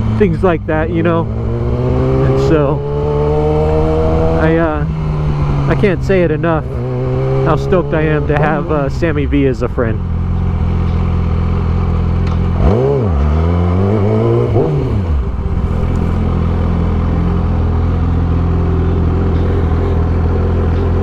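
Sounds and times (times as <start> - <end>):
motorcycle engine running and revving: 0.0 - 21.0.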